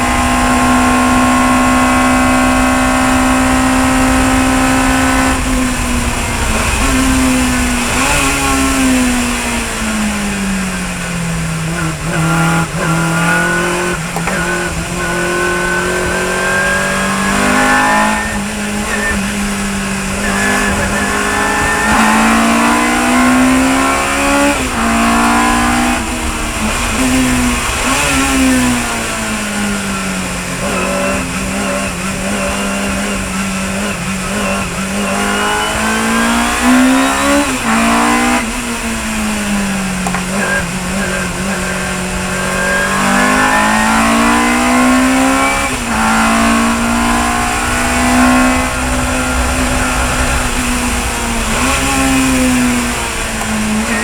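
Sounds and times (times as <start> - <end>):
racing car engine accelerating: 0.0 - 54.0.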